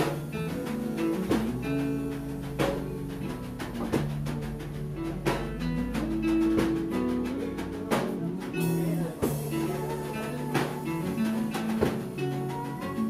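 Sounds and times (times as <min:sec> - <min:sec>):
acoustic guitars: 0:00.0 - 0:13.0
bass line: 0:00.0 - 0:13.0
percussion hits: 0:00.0 - 0:13.0.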